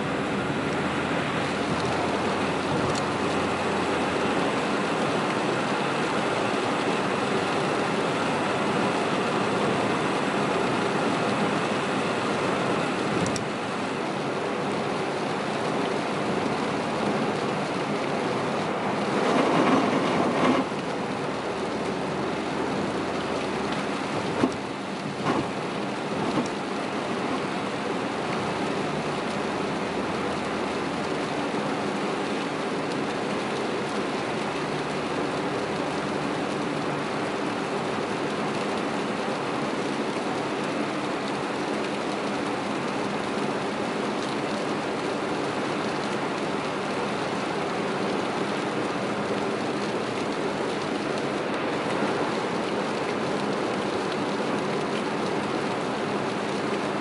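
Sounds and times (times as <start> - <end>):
heavy rain drumming on car: 0.0 - 57.0.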